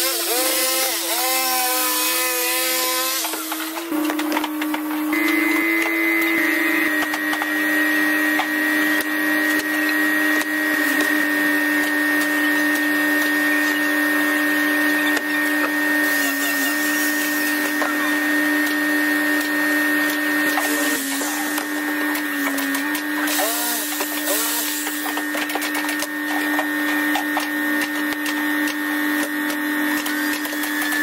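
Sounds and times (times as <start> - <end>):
router motor whining: 0.0 - 31.0.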